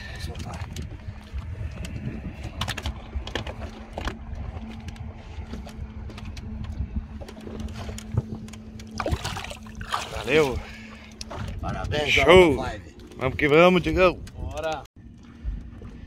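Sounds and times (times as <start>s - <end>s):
low hum and rumble: 0.0s - 16.0s.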